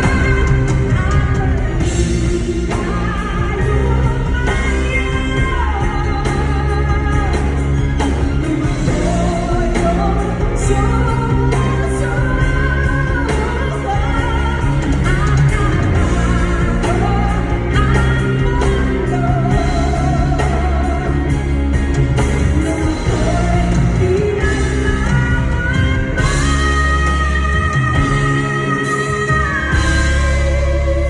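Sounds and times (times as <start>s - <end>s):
backing band playing: 0.0s - 31.0s
woman singing live: 0.0s - 31.0s.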